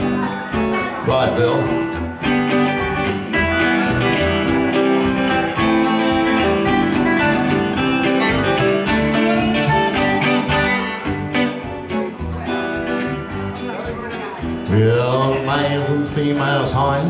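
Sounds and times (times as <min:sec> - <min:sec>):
bass notes: 0:00.0 - 0:17.0
electric guitars: 0:00.0 - 0:17.0.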